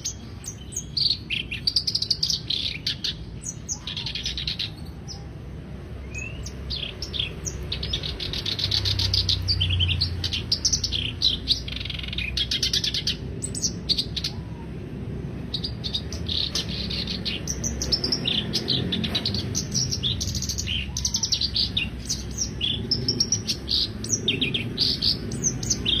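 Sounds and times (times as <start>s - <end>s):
reed warbler singing: 0.0s - 26.0s.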